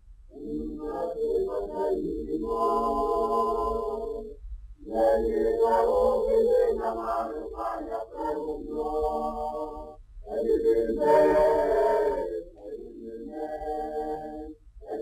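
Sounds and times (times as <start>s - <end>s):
group singing: 0.4s - 15.0s.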